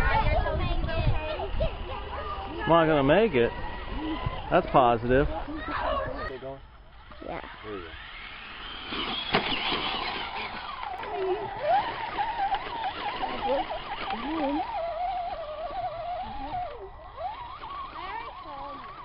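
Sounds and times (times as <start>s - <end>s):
electric motor and gearbox whining: 0.0s - 19.0s.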